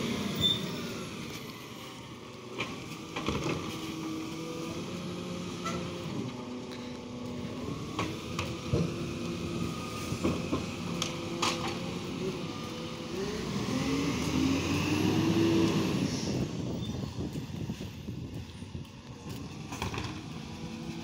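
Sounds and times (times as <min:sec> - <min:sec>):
diesel truck engine moving off: 0:00.0 - 0:21.0.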